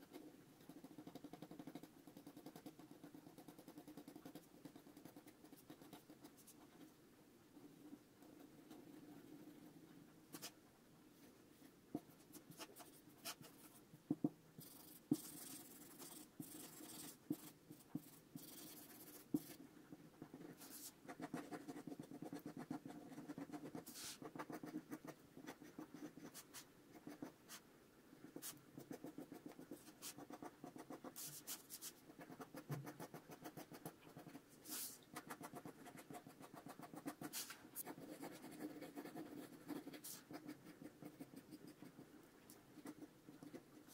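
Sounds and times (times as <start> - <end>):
pencil scratching on paper: 0.0 - 6.9, 7.6 - 10.6, 11.9 - 42.1, 42.7 - 43.9.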